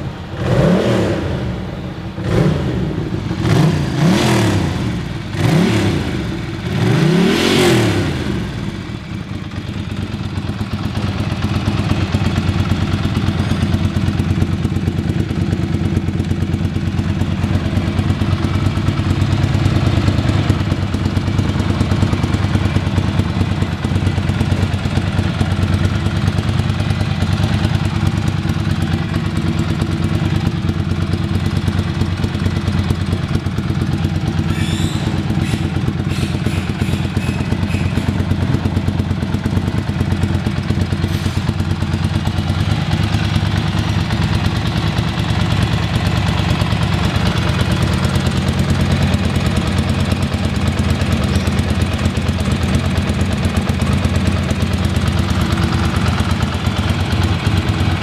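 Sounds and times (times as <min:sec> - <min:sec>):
motorcycle engine revving and idling: 0:00.0 - 0:58.0.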